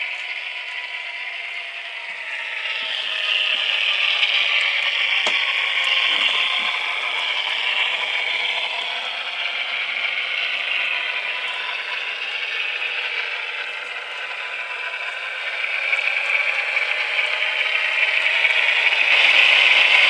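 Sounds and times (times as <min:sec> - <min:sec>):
thin diesel rumble from small speaker: 0:00.0 - 0:20.0.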